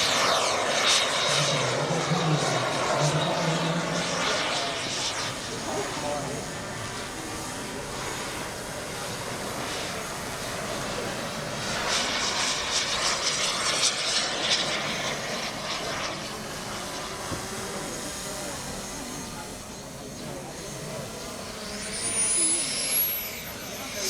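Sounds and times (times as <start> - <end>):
model jet turbine rushing: 0.0 - 24.0.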